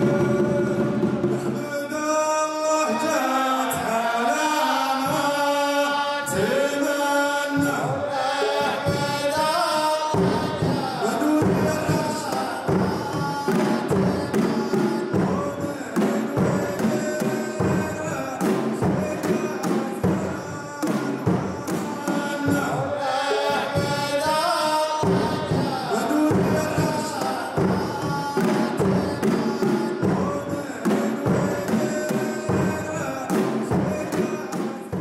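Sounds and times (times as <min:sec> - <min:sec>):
frame drums beating: 0:00.0 - 0:02.1, 0:05.0 - 0:05.5, 0:06.3 - 0:35.0
group singing: 0:00.0 - 0:35.0.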